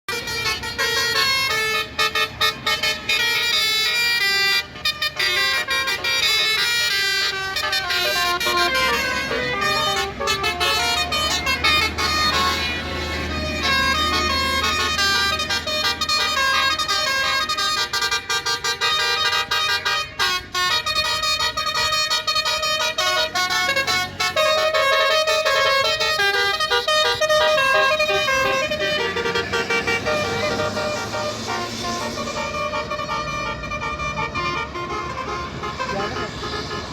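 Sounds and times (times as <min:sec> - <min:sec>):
air horn playing a melody: 0:00.1 - 0:36.9.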